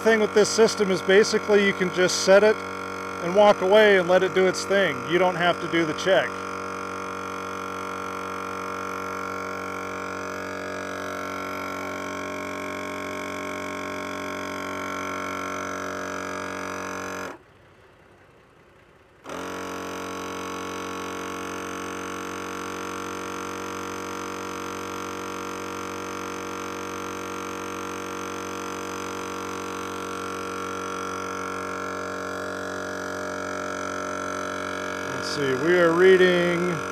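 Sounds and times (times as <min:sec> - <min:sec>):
air compressor droning: 0:00.0 - 0:36.9.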